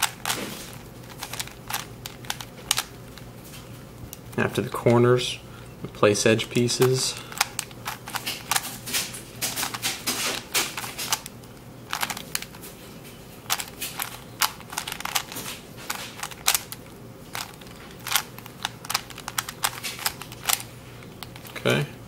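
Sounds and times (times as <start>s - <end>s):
puzzle cube clacking: 0.0s - 5.0s, 6.4s - 12.7s, 13.4s - 21.7s.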